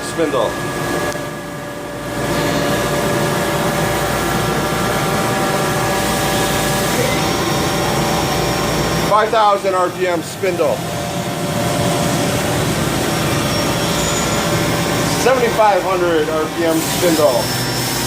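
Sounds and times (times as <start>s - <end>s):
machine spindle whine: 0.0s - 18.0s.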